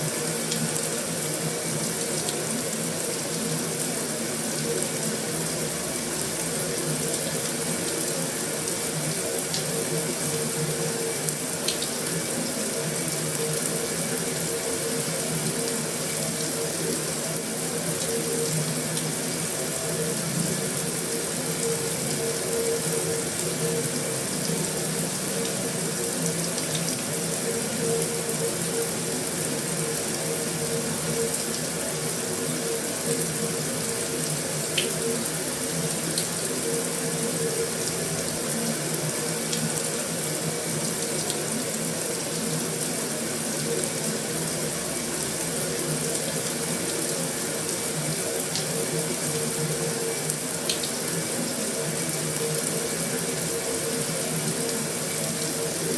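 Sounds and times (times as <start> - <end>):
heavy rain on a metal roof: 0.0 - 55.9.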